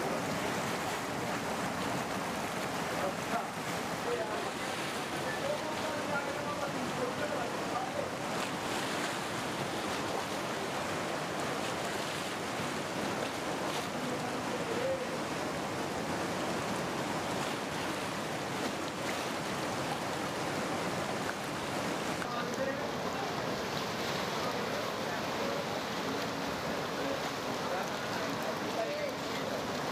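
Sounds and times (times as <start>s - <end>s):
flood water rushing: 0.0s - 29.9s.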